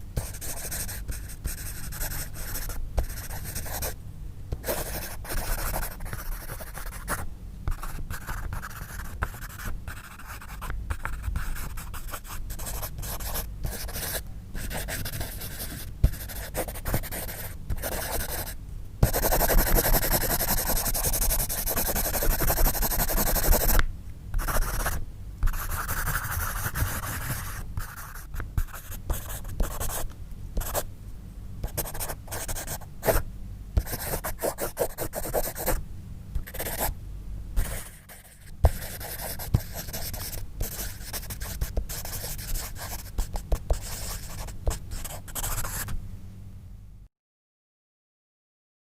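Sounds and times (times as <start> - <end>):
pencil writing on paper: 0.2 - 3.9, 4.6 - 23.8, 24.4 - 30.0, 30.6 - 30.8, 31.6 - 33.2, 33.8 - 35.8, 36.4 - 36.9, 37.6 - 45.9.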